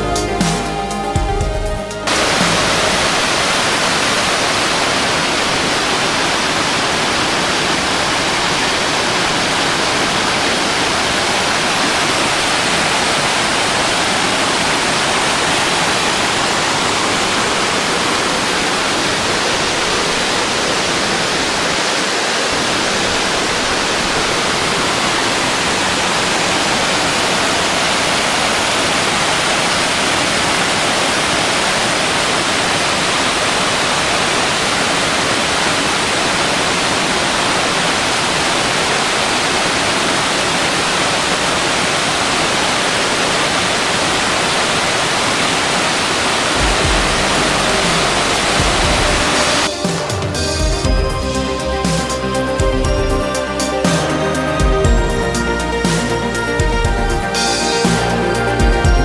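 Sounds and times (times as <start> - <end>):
waterfall rushing water: 0.0 - 59.0.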